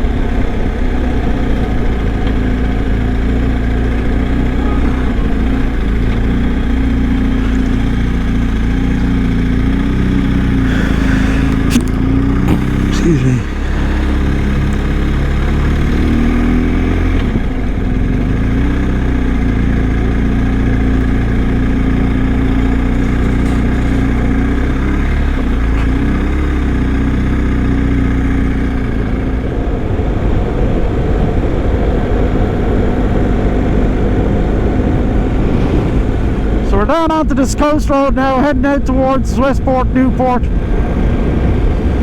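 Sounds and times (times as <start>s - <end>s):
motorcycle engine running: 0.0s - 36.8s.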